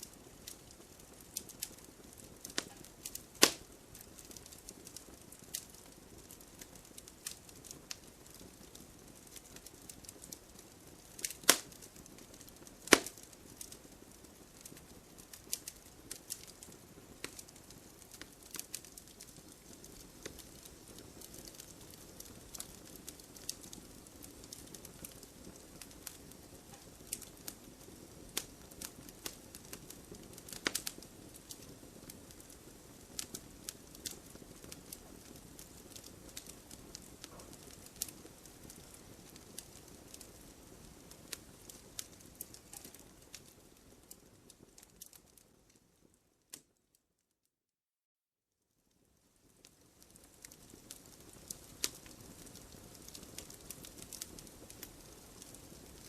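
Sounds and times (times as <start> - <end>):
firewood crackling and popping: 0.0 - 46.8, 48.9 - 56.0.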